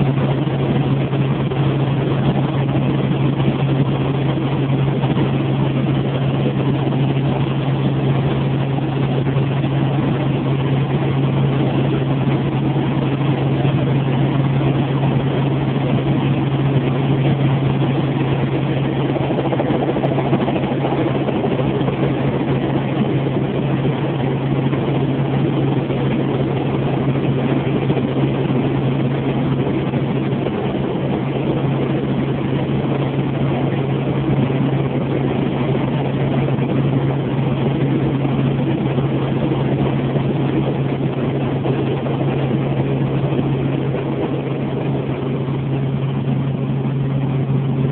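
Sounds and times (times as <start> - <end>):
helicopter engine and rotor noise: 0.0 - 47.9.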